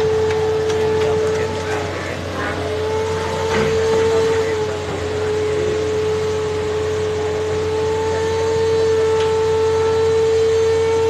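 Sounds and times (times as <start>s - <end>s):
excavator diesel engine whine: 0.0s - 11.0s.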